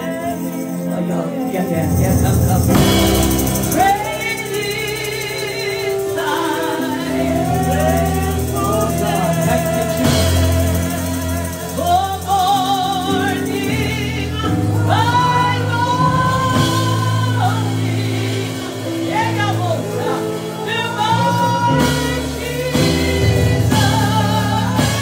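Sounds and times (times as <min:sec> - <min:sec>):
sustained backing chords: 0:00.0 - 0:25.0
woman singing with vibrato: 0:02.7 - 0:25.0.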